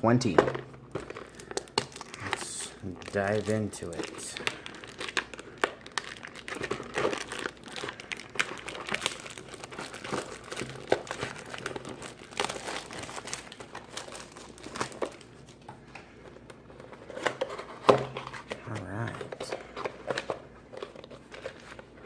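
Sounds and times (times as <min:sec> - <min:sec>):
packaging crinkling and tearing: 0:00.9 - 0:15.7, 0:16.7 - 0:22.0.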